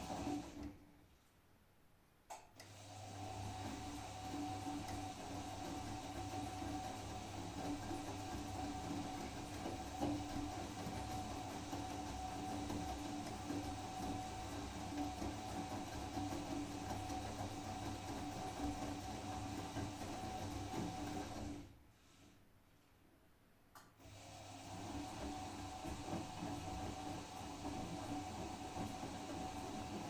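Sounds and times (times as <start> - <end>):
washing machine running: 0.0 - 0.7, 2.9 - 21.8, 24.0 - 30.0.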